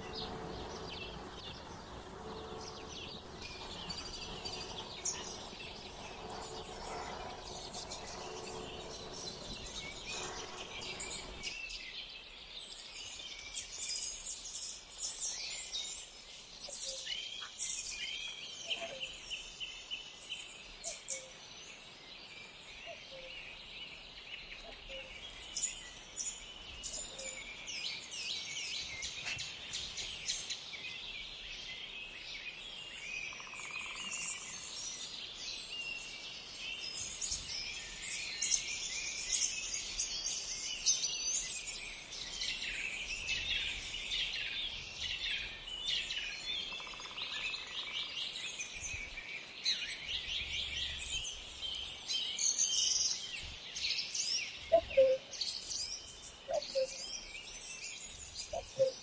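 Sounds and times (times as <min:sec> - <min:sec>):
songbirds chirping and singing: 0:00.0 - 0:13.2, 0:14.0 - 0:59.0.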